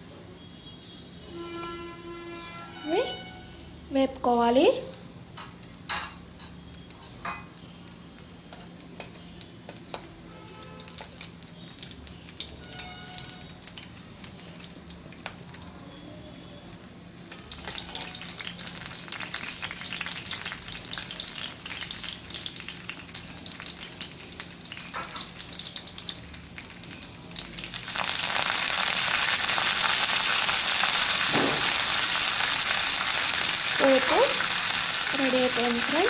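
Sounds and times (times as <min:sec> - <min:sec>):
spices crackling in hot oil: 0:01.4 - 0:36.0.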